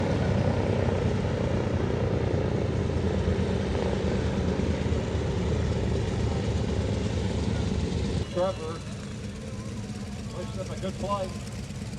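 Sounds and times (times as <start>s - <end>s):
propeller aircraft engines droning: 0.0s - 11.9s.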